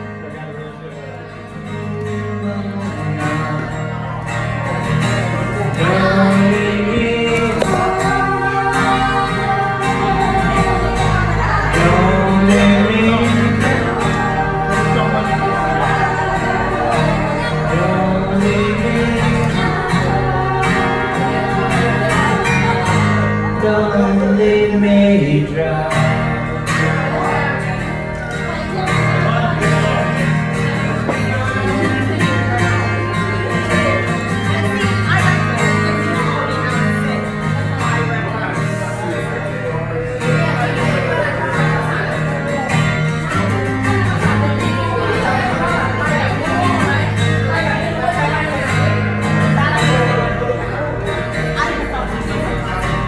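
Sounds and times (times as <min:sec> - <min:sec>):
acoustic guitar strumming: 0:00.0 - 0:53.0
person singing: 0:01.7 - 0:53.0.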